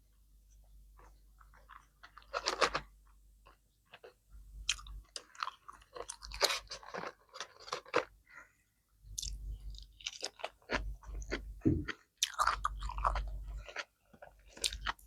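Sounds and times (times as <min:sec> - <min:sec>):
person chewing crunchy food: 0:01.0 - 0:08.2, 0:09.1 - 0:15.0.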